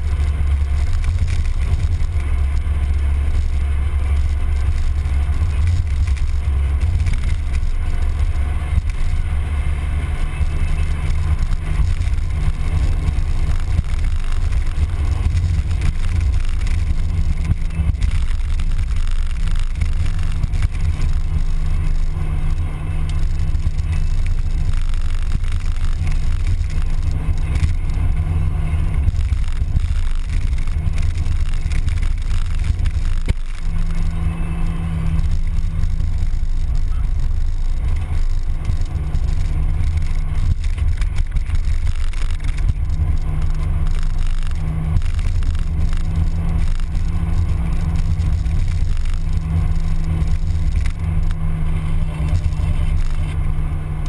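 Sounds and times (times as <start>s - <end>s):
car engine droning: 0.0s - 54.0s
road noise: 0.0s - 54.0s
wind noise: 0.0s - 54.0s.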